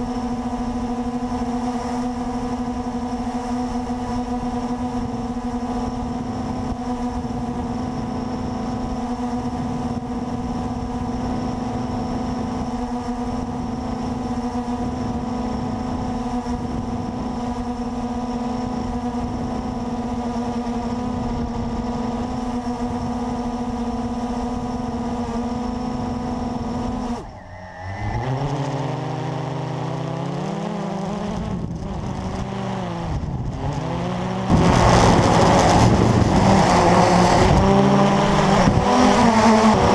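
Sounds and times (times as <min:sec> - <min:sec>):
quadcopter propellers humming: 0:00.0 - 0:39.9.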